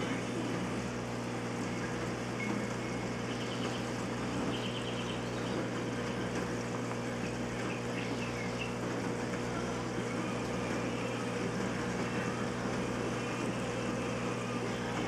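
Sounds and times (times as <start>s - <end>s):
aquarium pump humming: 0.0s - 15.0s.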